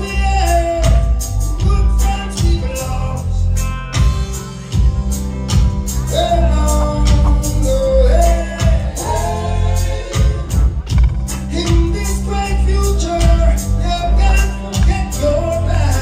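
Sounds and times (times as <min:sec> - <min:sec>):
man singing: 0:00.0 - 0:04.4, 0:05.9 - 0:16.0
reggae band playing: 0:00.0 - 0:16.0.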